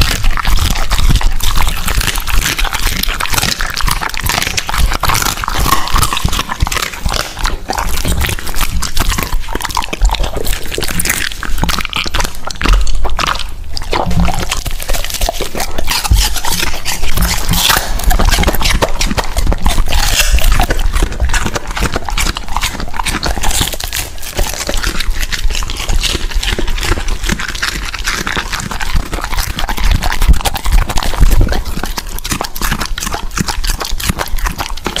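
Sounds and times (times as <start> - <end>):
dog chewing wet food: 0.0 - 35.0.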